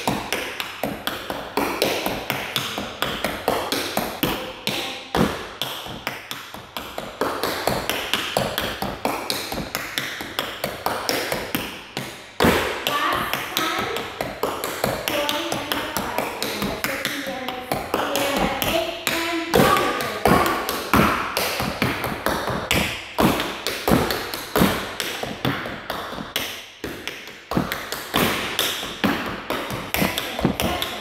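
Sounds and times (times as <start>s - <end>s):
tap shoes on wooden floor: 0.0s - 31.0s.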